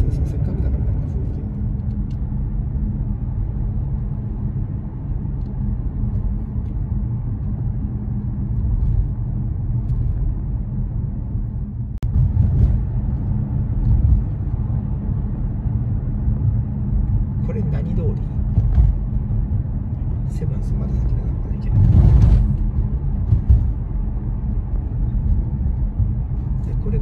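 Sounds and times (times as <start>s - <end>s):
car cabin road rumble: 0.0s - 27.0s.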